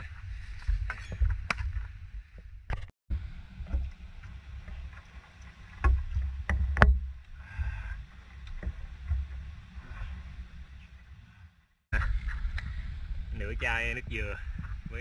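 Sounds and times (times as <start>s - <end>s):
low rumbling noise: 1.7s - 15.0s.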